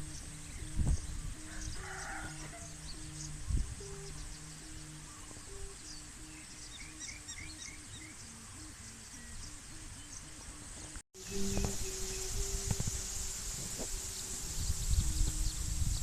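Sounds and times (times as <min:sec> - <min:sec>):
kite hummer droning: 0:00.0 - 0:16.0
small birds chirping: 0:00.0 - 0:16.0.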